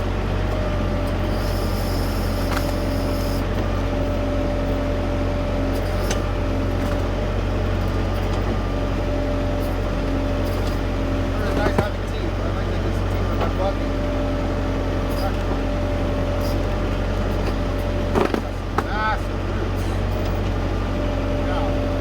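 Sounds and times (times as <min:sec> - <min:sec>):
constant whine: 0:00.0 - 0:22.0
tractor diesel engine running: 0:00.0 - 0:22.0.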